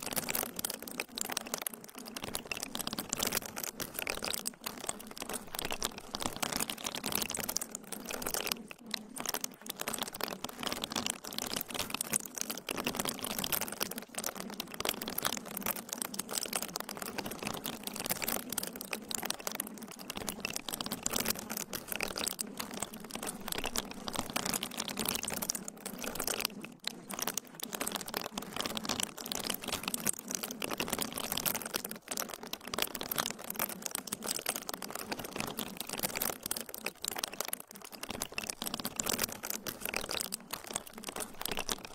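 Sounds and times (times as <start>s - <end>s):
dense crackling: 0.0s - 41.9s.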